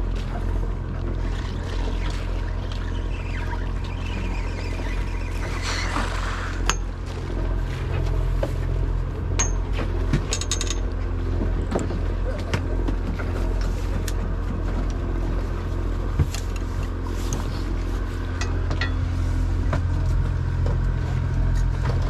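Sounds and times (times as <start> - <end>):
boat engine humming: 0.0 - 22.0.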